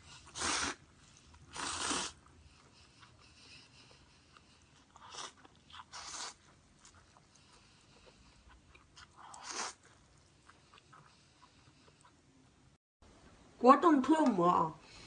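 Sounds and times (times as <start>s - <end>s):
close eating mouthfuls: 0.0s - 12.2s
faint chewing and mouth clicks: 0.0s - 12.7s.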